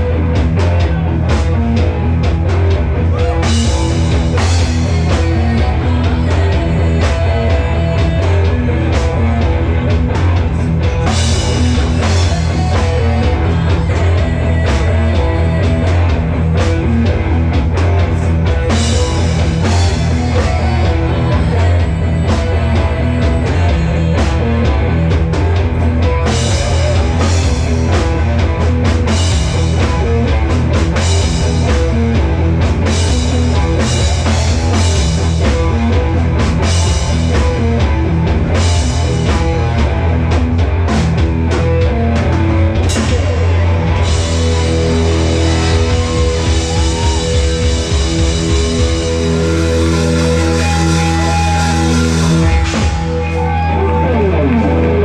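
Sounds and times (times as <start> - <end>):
drum kit beat: 0.0 - 55.0
electric guitars: 0.0 - 55.0.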